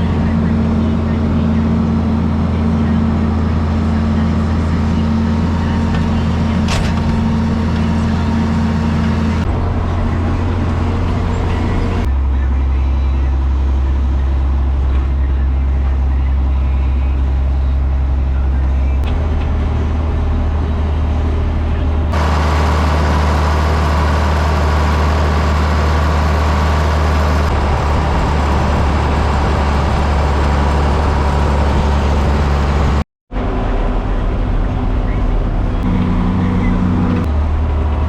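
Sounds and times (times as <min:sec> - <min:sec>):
tractor engine running under load: 0:00.0 - 0:38.0.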